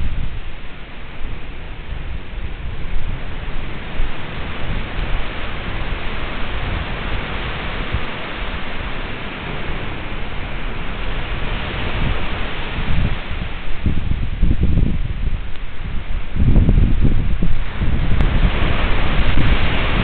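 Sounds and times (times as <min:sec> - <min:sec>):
breaking surf: 0:00.0 - 0:20.0
heavy rain hiss: 0:00.0 - 0:20.0
wind gusts buffeting microphone: 0:00.0 - 0:20.0.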